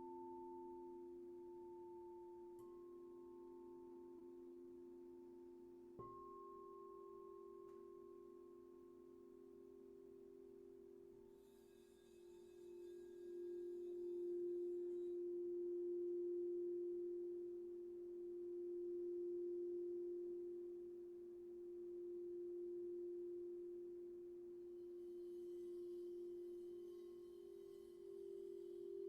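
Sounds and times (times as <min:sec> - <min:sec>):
faint higher ringing: 0:00.0 - 0:29.0
singing bowl tone: 0:00.0 - 0:29.0.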